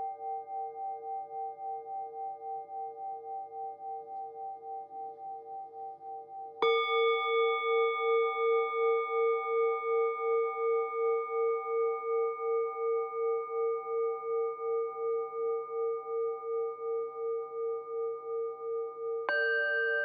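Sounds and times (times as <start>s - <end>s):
bowl bell ringing: 0.0s - 20.0s.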